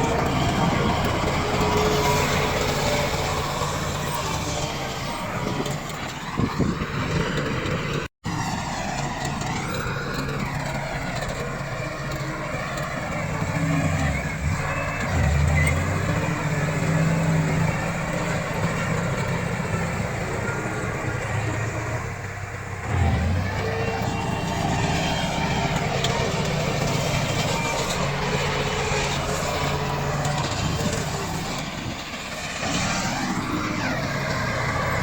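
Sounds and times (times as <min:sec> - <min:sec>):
bulldozer diesel engine: 0:00.0 - 0:35.0.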